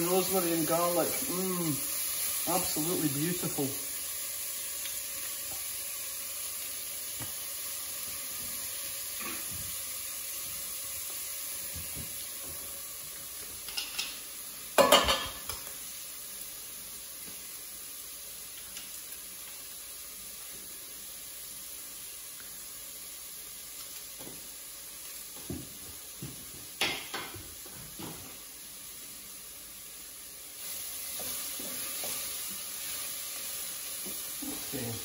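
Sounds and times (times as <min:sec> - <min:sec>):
onions sizzling in a pot: 0:00.0 - 0:35.0.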